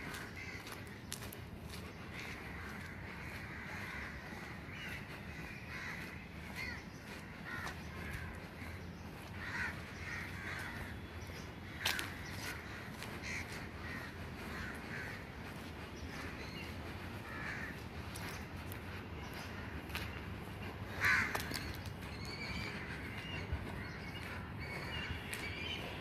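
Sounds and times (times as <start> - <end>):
crows cawing: 0.0 - 25.8.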